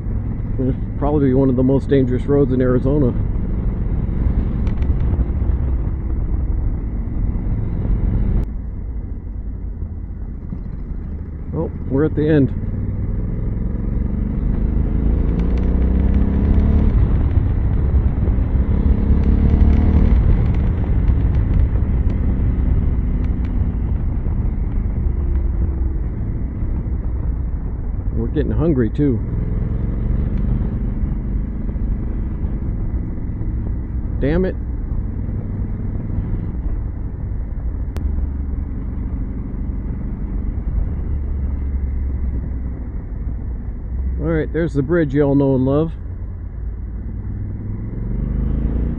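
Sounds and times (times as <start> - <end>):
motorcycle engine running: 0.0 - 48.9
road noise: 0.0 - 48.9.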